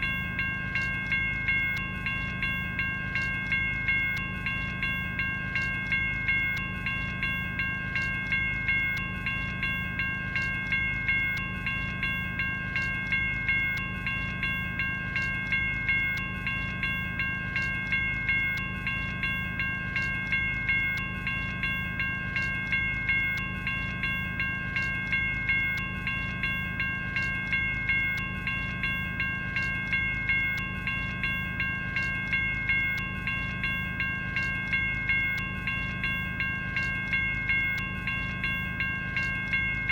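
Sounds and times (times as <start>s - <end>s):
electronic railroad crossing bell: 0.0s - 39.9s.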